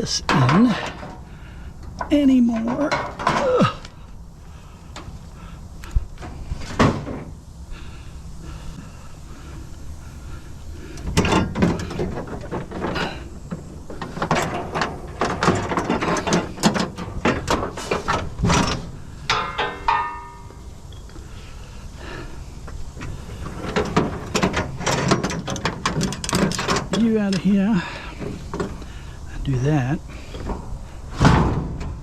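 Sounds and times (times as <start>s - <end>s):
scrap metal clanking and rattling: 0.0s - 7.4s, 8.5s - 21.1s, 22.7s - 32.0s.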